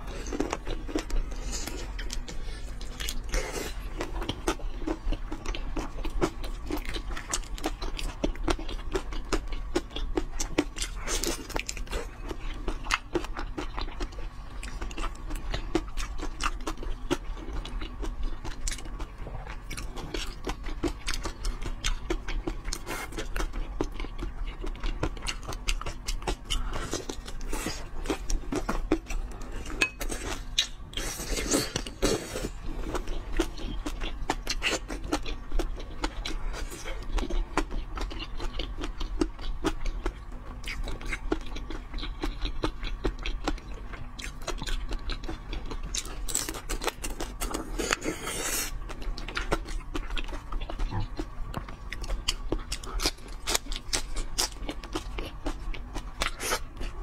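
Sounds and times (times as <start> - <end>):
chewing prawns: 0.0 - 57.0.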